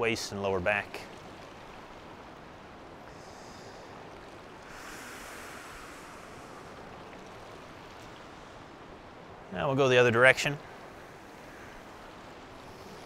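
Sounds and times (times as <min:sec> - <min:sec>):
river rushing over rocks: 0:00.1 - 0:13.0.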